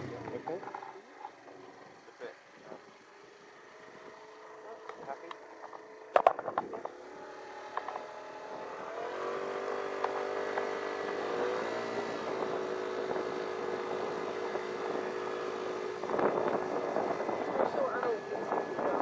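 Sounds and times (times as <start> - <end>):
motor scooter engine: 0.0 - 19.0.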